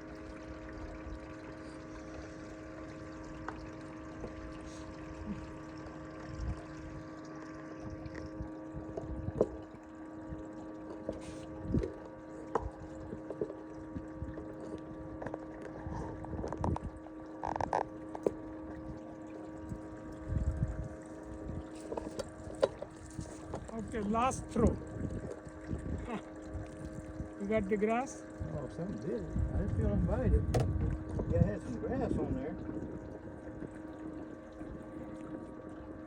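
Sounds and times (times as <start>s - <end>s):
small motor humming: 0.0s - 36.0s.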